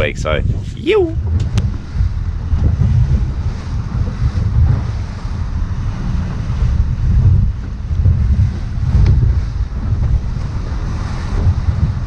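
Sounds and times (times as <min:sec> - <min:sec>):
waves washing: 0:00.0 - 0:12.0
wind buffeting microphone: 0:00.0 - 0:12.0.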